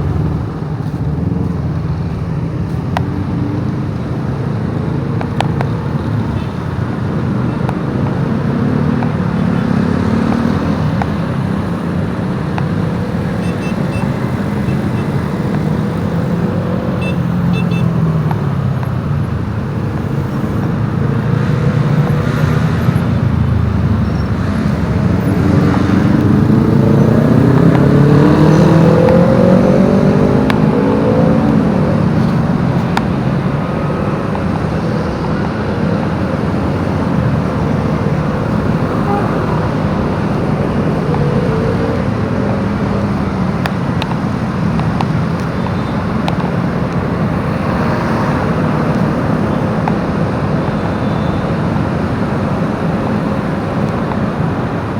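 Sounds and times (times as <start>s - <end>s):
road noise: 0.0s - 54.9s.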